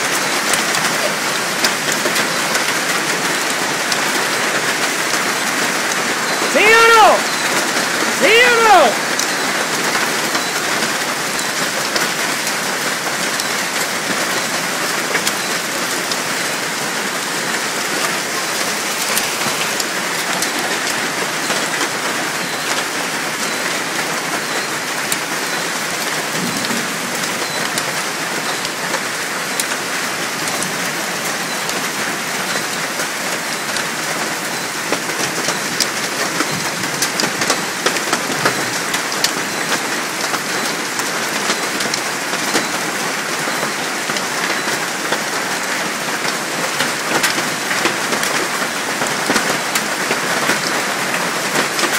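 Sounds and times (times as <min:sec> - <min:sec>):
hailstones ticking: 0:00.0 - 0:51.9.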